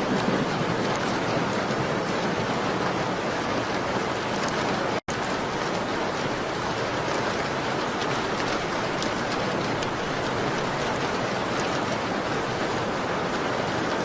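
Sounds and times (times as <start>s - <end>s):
raindrops ticking: 0.0s - 2.3s, 3.6s - 13.6s
rain on a window: 0.0s - 14.0s.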